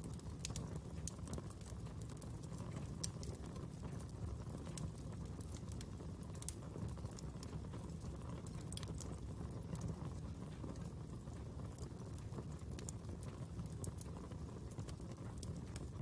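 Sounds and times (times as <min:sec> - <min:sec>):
fire crackling and rumbling: 0:00.0 - 0:16.0.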